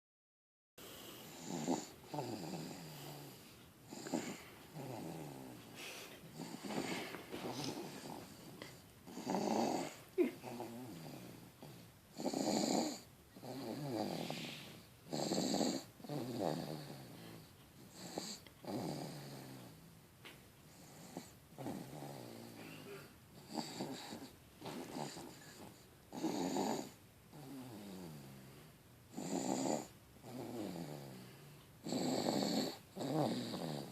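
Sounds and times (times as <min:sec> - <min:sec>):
baby snoring: 0:00.8 - 0:19.8, 0:20.7 - 0:33.9.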